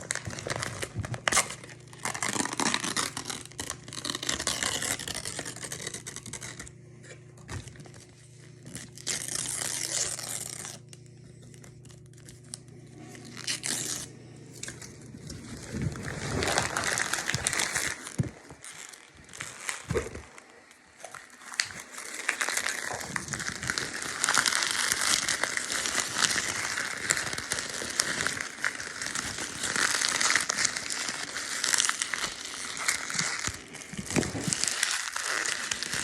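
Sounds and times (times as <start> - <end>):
crinkling and tearing: 0.0 - 36.0
steady low hum: 0.0 - 36.0.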